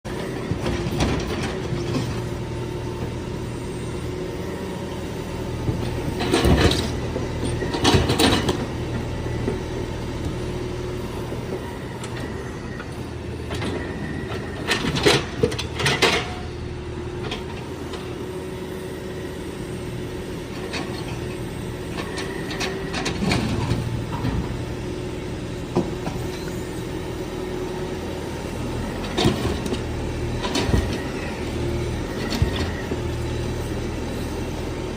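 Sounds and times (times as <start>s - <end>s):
excavator engine running: 0.1s - 34.9s.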